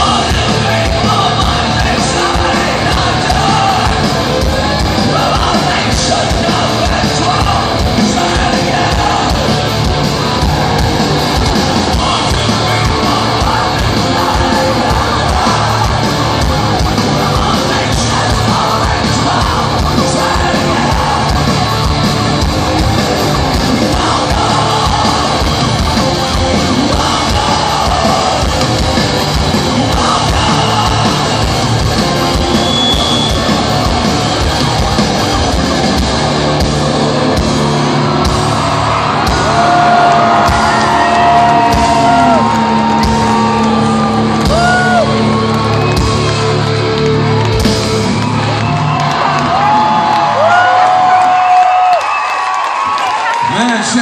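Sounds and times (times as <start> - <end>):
pounding drums: 0.0 - 51.8
crowd cheering and whooping: 0.0 - 54.0
rock band playing loudly: 0.0 - 54.0.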